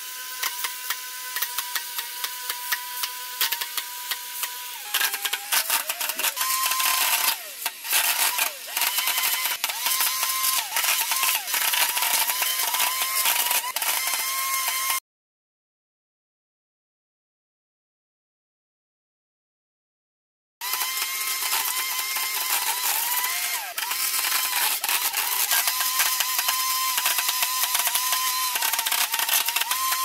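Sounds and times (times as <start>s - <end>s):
small motor whining: 0.0s - 15.0s, 20.6s - 30.0s.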